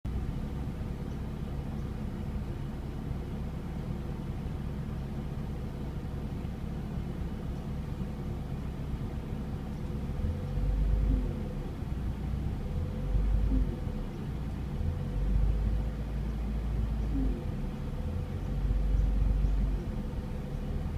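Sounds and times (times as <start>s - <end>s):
car engine idling roughly: 0.1s - 20.9s.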